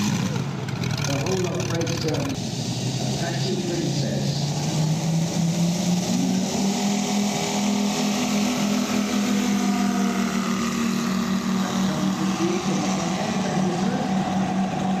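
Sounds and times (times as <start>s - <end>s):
model airplane engine running: 0.0s - 2.4s, 3.2s - 15.0s.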